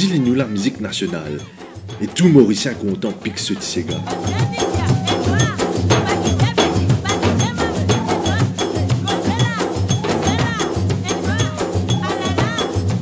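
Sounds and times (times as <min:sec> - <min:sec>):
frame drums and percussion: 0:00.0 - 0:13.0.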